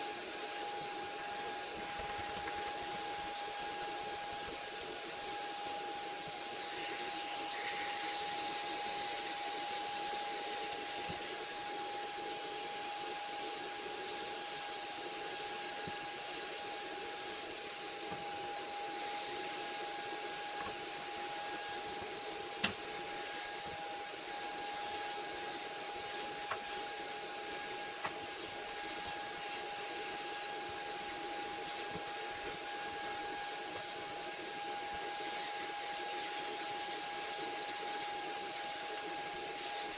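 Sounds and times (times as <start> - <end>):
electric motor whine and hiss: 0.0 - 39.9.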